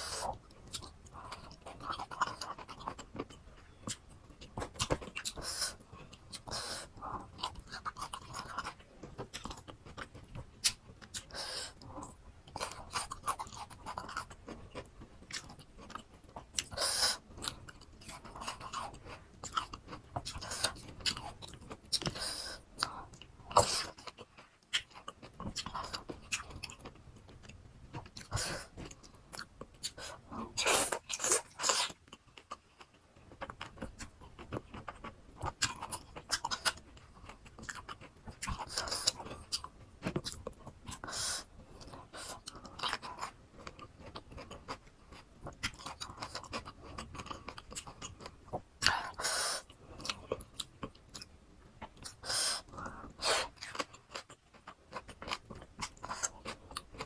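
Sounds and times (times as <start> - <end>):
person chewing crunchy fruit: 0.0 - 57.0.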